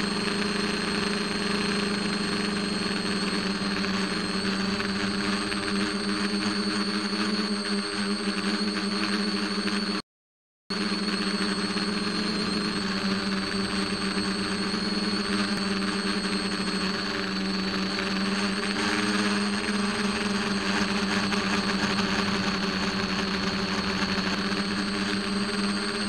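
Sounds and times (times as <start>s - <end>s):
drone motors humming: 0.0s - 9.8s, 10.8s - 26.0s.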